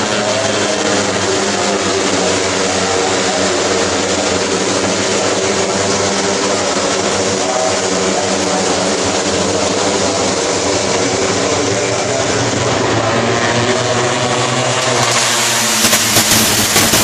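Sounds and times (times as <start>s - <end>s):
racing motorcycles at high revs: 0.0s - 17.0s.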